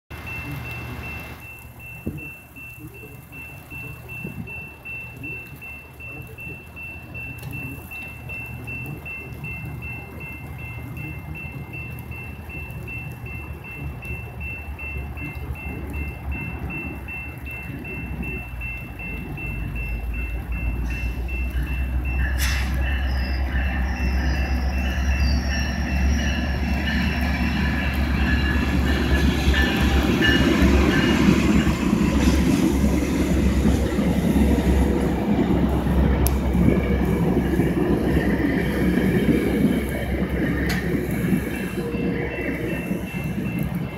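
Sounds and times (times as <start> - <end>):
train passing on rails: 0.1 - 43.9.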